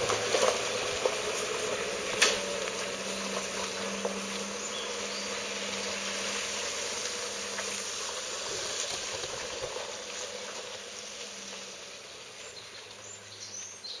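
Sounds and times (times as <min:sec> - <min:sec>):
insects buzzing: 0:00.0 - 0:13.9
pickup engine hum: 0:00.0 - 0:14.0.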